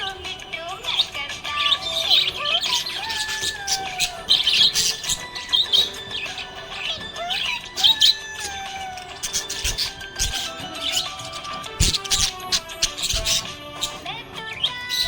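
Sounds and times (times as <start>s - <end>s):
budgerigars chirping: 0.0s - 15.0s
music playing: 0.0s - 15.0s.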